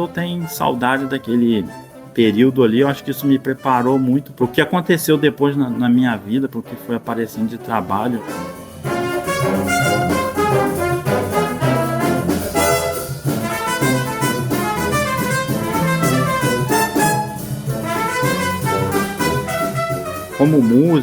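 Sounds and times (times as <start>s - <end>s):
brass and woodwind band playing: 0.0s - 21.0s.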